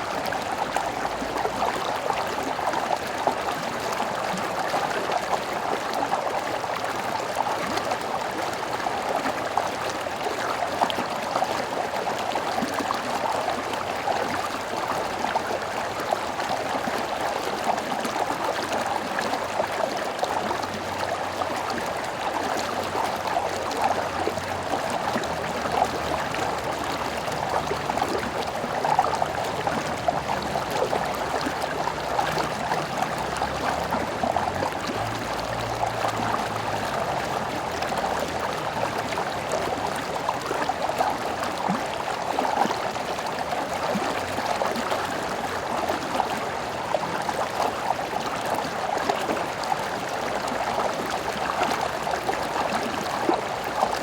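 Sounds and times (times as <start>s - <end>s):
stream babbling over stones: 0.0s - 54.0s.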